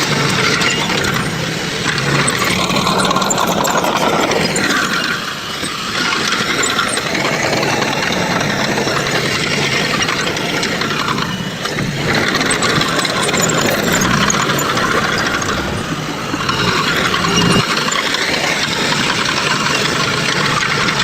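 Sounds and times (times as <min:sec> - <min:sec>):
mechanical rattling and clanking: 0:00.0 - 0:18.5
heavy machinery engine running: 0:00.0 - 0:20.3.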